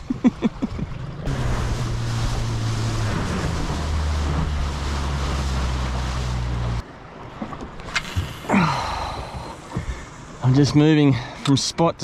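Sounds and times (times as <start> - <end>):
outboard motor running: 0.0 - 10.4
rush of wind and water: 0.0 - 12.0.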